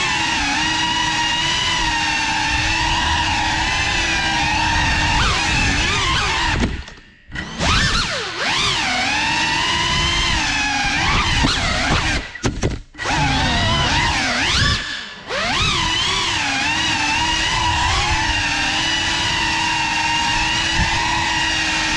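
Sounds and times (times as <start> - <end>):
drone motors whining: 0.0 - 21.9.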